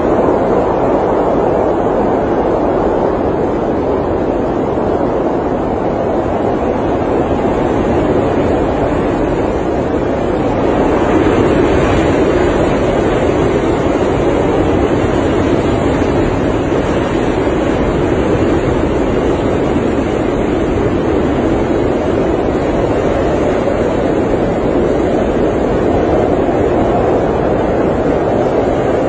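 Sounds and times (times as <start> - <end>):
blizzard wind blowing: 0.0 - 29.0.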